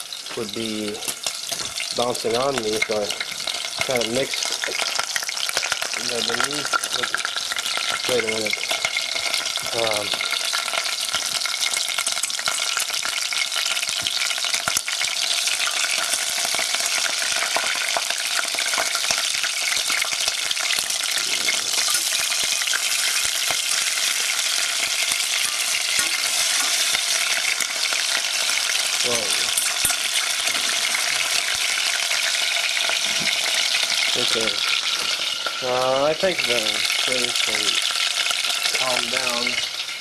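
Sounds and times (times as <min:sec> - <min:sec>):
meat sizzling in hot oil: 0:00.0 - 0:40.0.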